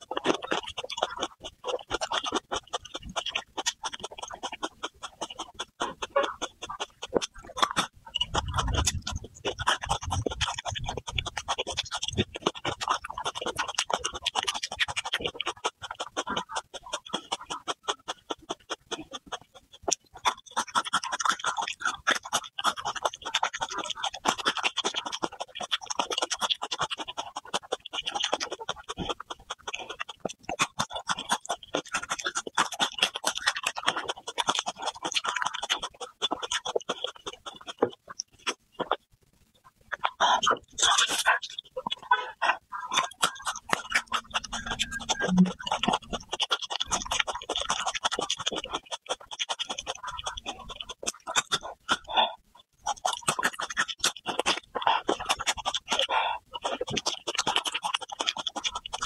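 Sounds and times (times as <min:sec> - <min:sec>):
chewing soft food: 0:00.0 - 0:59.0.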